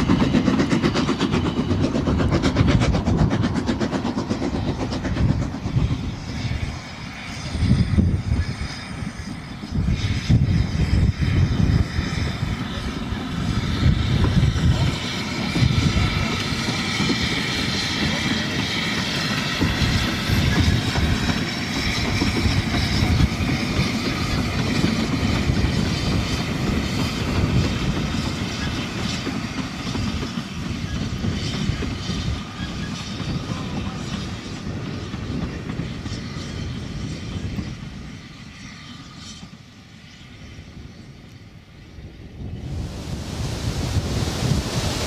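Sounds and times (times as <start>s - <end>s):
steam locomotive hauling coaches: 0.0s - 45.0s
train wheels on track: 0.0s - 45.0s.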